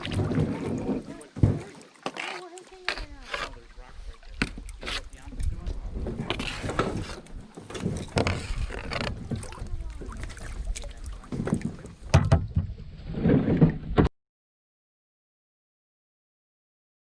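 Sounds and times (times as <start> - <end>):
paddle splashing water: 0.0 - 14.1.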